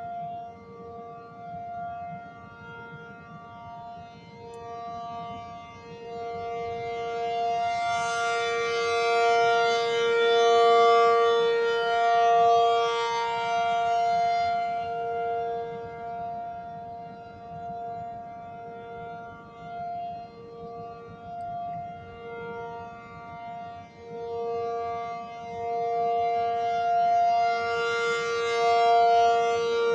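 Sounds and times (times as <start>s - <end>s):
warning siren steady tone: 0.0s - 29.9s.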